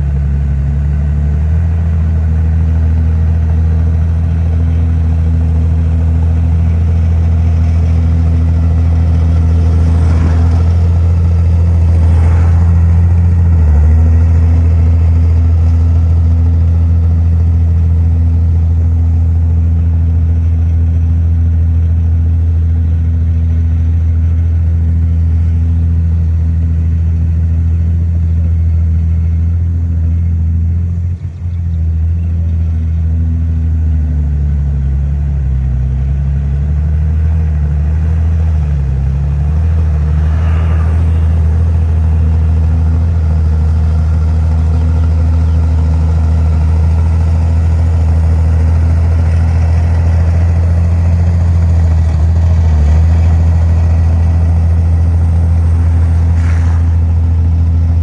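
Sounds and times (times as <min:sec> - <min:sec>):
large diesel engine running: 0:00.0 - 0:58.0.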